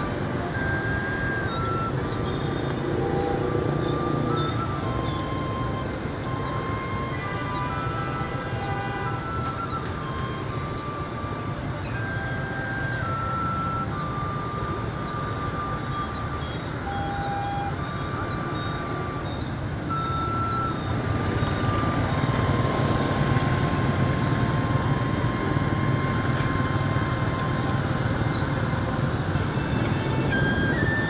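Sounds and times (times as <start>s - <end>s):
background music melody: 0.0s - 31.0s
motorbike engine rumble: 0.0s - 31.0s.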